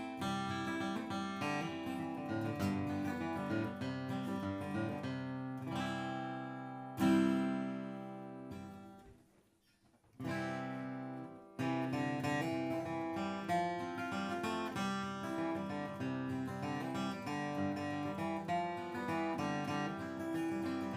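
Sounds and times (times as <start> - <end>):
acoustic guitar strumming: 0.0 - 9.2, 10.2 - 20.9.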